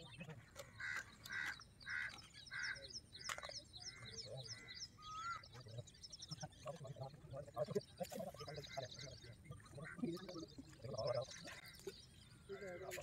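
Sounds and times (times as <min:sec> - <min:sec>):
bird repeated calls: 0:00.0 - 0:13.0
high bird chirping: 0:00.0 - 0:13.0.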